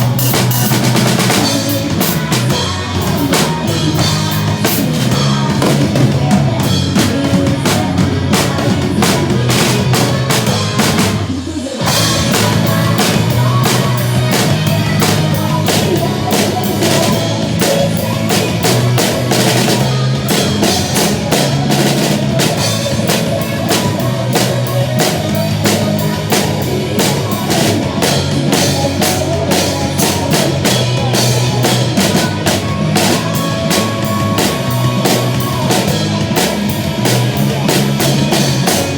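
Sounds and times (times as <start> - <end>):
drum kit playing: 0.0 - 38.9
rock backing track: 0.0 - 38.9.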